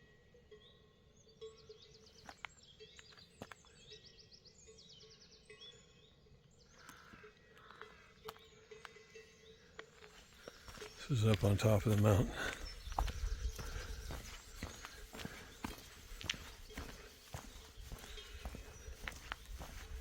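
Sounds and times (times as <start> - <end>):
songbirds trilling: 0.0 - 20.0.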